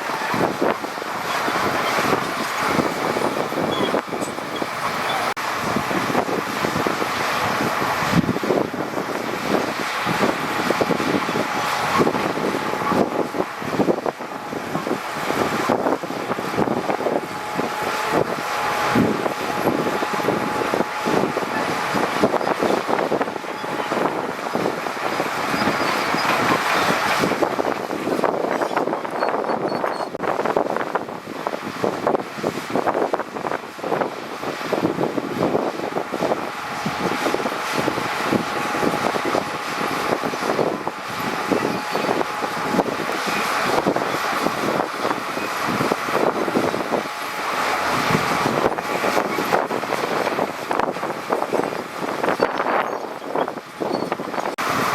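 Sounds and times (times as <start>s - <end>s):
heavy machinery noise: 0.0s - 54.9s.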